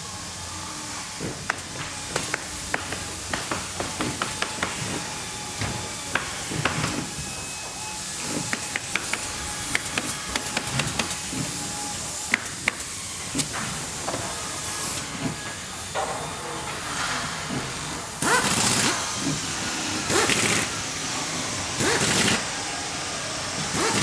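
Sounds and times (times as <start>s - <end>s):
machinery hiss: 0.0s - 24.0s.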